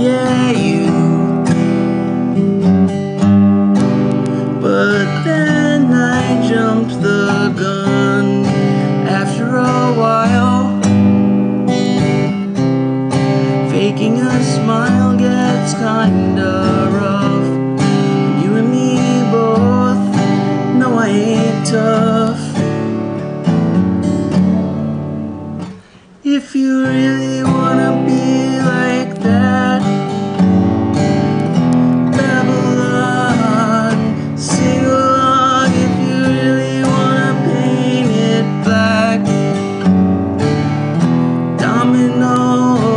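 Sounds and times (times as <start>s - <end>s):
man singing: 0.0s - 1.9s, 4.2s - 23.0s, 25.6s - 30.5s, 31.4s - 42.9s
acoustic guitar strummed: 0.0s - 42.9s.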